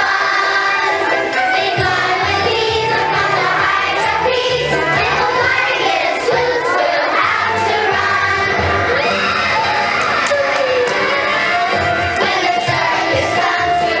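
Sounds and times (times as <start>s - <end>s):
children singing in unison: 0.0s - 14.0s
instrumental accompaniment with bass: 0.0s - 14.0s.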